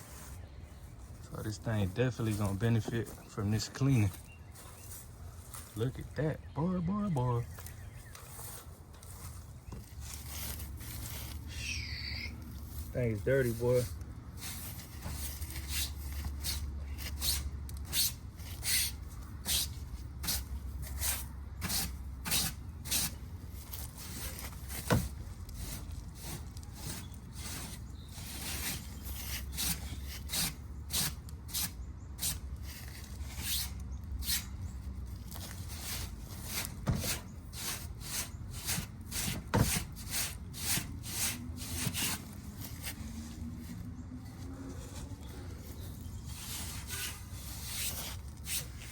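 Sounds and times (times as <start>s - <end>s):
brush scraping strokes: 0.0s - 6.2s, 7.5s - 48.9s.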